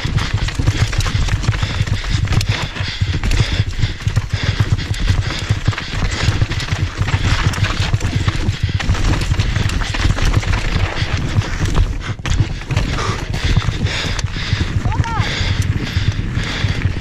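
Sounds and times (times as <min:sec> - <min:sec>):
tyres crunching over stones: 0:00.0 - 0:16.0
bike rattling and clattering: 0:00.0 - 0:17.0.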